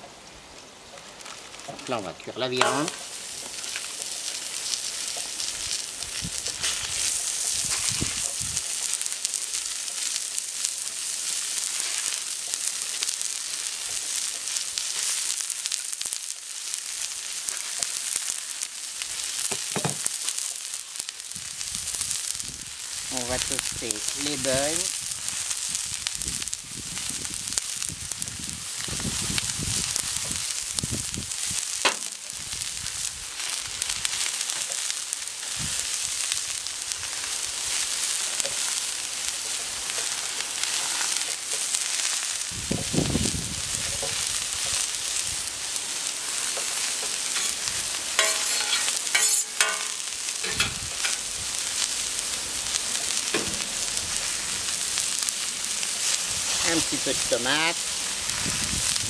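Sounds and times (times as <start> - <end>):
patties sizzling on a hot plate: 0.0 - 59.0.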